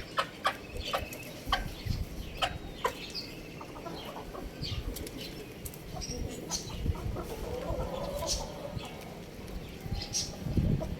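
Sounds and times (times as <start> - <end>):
young rooster clucking and chirping: 0.0 - 9.2.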